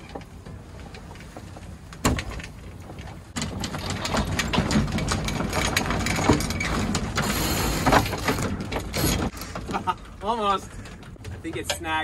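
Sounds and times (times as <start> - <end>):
sails flapping and rigging rattling: 0.0 - 12.0.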